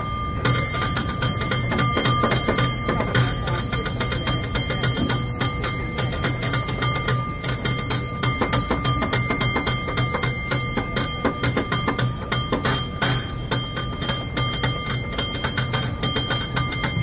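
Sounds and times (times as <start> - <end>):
bell clanging rapidly: 0.0 - 17.0.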